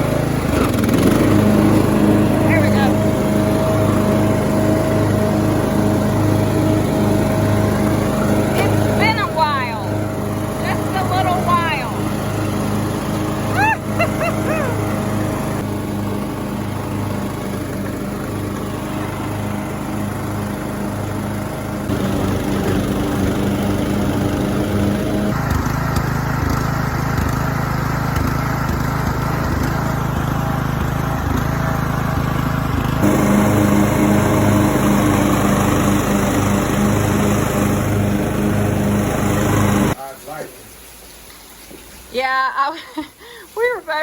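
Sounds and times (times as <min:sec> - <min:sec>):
tractor engine running: 0:00.0 - 0:40.1.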